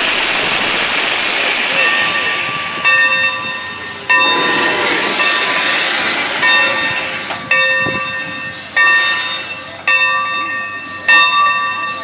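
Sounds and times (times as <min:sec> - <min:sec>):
steam hissing: 0:00.0 - 0:09.8
locomotive bell ringing: 0:01.6 - 0:12.0.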